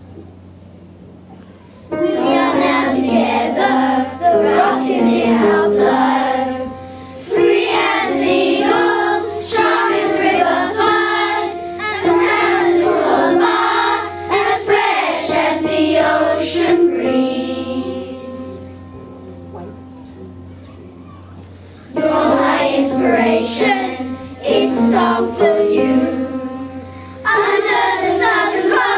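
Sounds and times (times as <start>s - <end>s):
children's choir singing: 1.9s - 19.0s, 21.9s - 28.9s.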